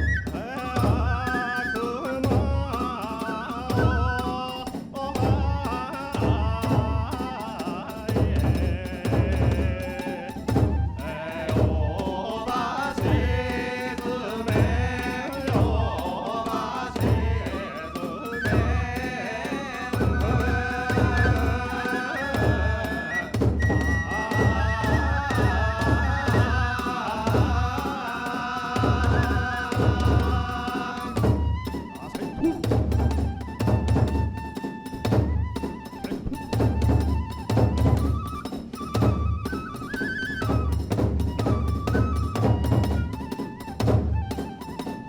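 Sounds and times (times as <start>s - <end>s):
big drum beating: 0.0s - 44.8s.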